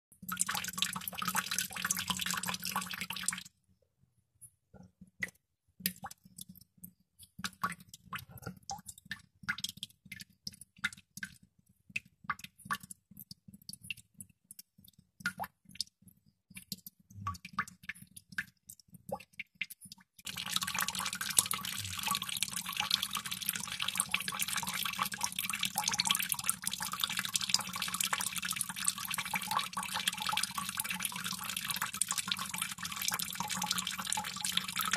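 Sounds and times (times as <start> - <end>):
water droplets dripping: 0.1 - 3.5, 4.8 - 34.9.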